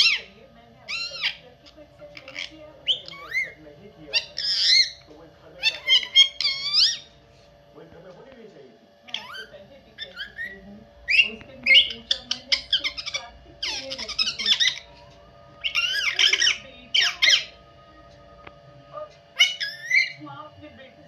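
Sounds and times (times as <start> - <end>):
parrot chattering: 0.0 - 7.2, 9.0 - 18.1, 19.0 - 20.3
parrot squawking: 0.0 - 7.2, 9.0 - 18.1, 18.8 - 20.3.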